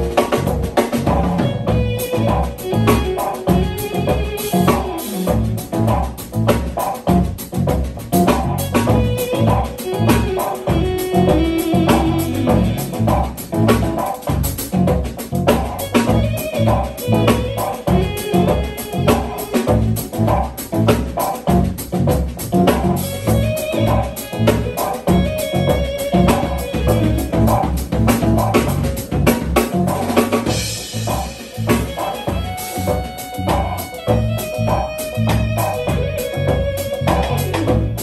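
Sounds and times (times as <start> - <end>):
drum kit beat: 0.0 - 38.0
electric bass guitar: 0.0 - 38.0
keyboards: 0.0 - 38.0.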